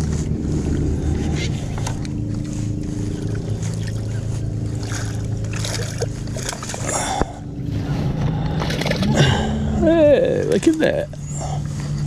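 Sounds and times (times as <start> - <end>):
fish splashing: 0.0 - 9.8
boat motor humming: 0.0 - 12.0.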